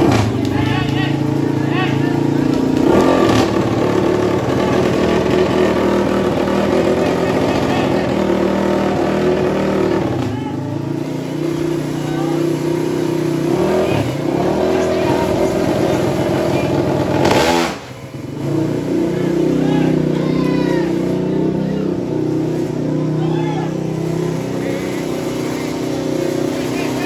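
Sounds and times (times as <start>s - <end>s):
crowd voices: 0.0s - 27.0s
motorcycle engines revving: 0.0s - 27.0s.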